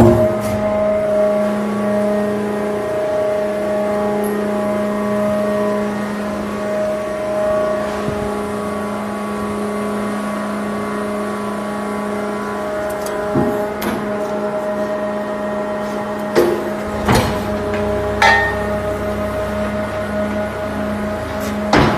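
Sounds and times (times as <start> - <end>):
hydraulic power unit whine: 0.0 - 21.9.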